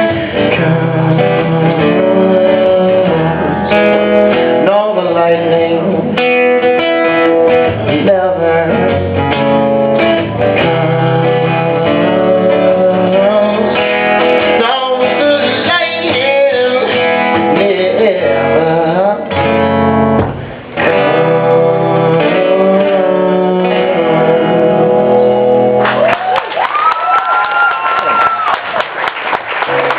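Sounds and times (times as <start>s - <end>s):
guitar strummed and picked: 0.0s - 26.1s.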